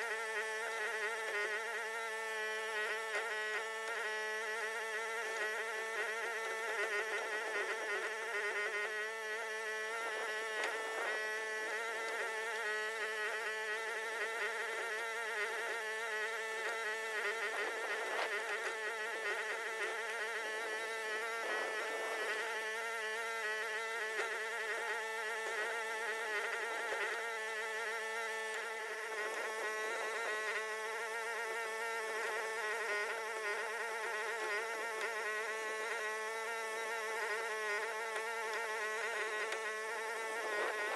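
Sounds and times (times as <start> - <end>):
excavator engine buzzing drone: 0.0 - 40.9.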